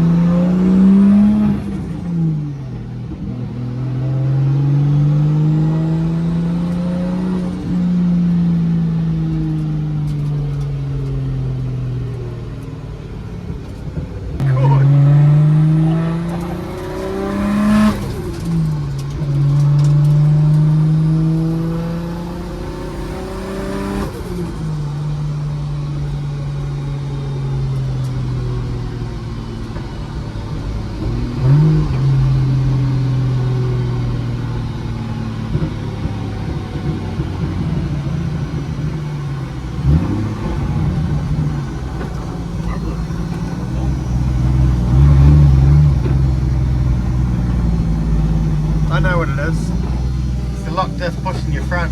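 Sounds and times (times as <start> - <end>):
car engine accelerating with gear changes: 0.0 - 51.9.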